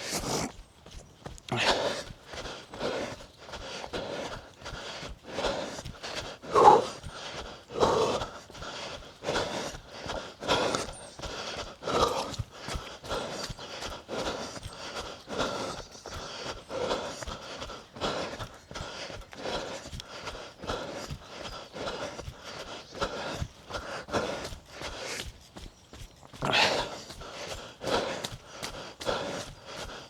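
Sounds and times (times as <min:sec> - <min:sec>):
heavy panting: 0:00.0 - 0:00.6, 0:01.5 - 0:30.0
running footsteps on forest ground: 0:00.0 - 0:30.0.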